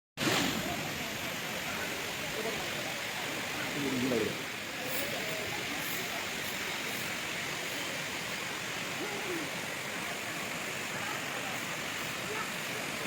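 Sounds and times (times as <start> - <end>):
waterfall rushing: 0.2 - 13.0.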